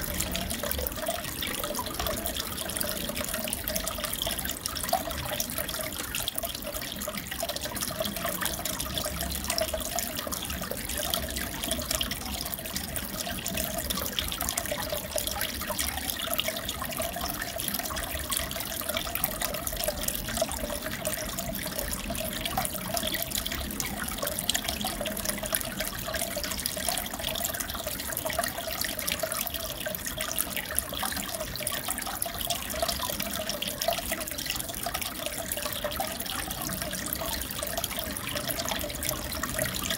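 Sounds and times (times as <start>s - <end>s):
aquarium water bubbling: 0.0s - 39.9s
small water splashes: 0.0s - 39.9s.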